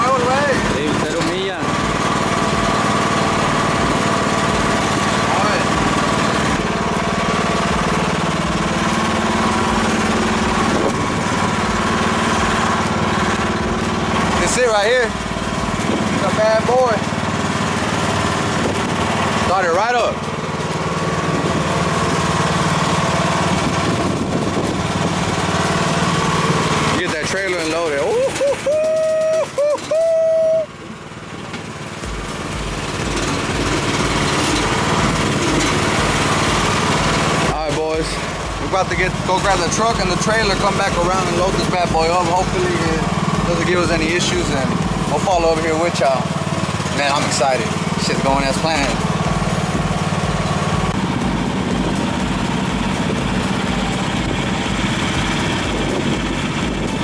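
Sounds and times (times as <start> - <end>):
small engine idling: 0.0 - 57.0.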